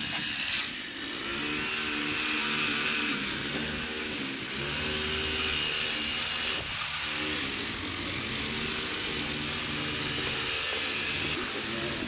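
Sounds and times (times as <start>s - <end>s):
orbital sander whine and hiss: 0.0s - 12.0s.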